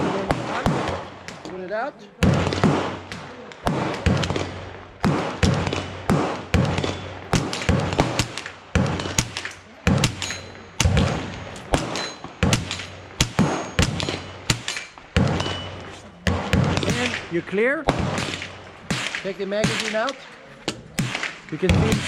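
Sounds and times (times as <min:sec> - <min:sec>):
rifle shots: 0:00.0 - 0:22.0.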